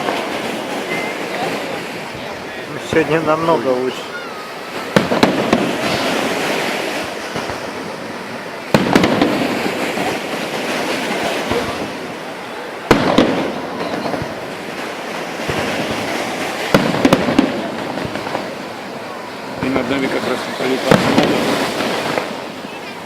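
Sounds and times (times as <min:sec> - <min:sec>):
firework bangs: 0:00.0 - 0:23.0
firework crackling: 0:00.0 - 0:23.0.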